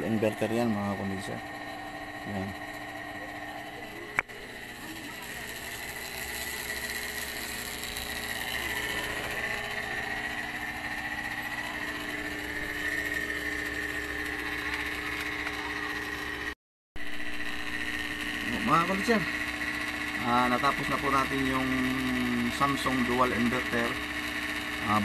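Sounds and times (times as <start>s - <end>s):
high-pitched whine: 0.0s - 16.1s, 17.0s - 24.0s
refrigerator compressor hum: 0.0s - 25.0s.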